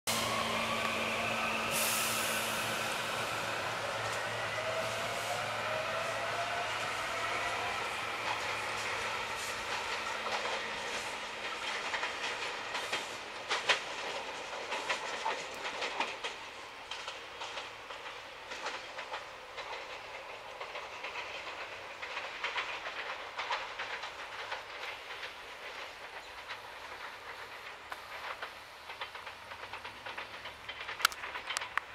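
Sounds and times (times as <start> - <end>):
train wheels clicking over rail joints: 0.1 - 31.9.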